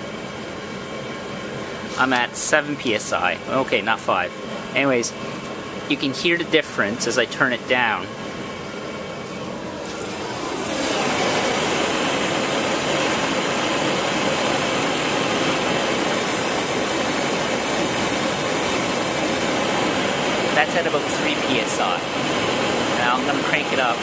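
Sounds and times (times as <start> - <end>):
gas forge burner rushing: 0.0 - 24.0.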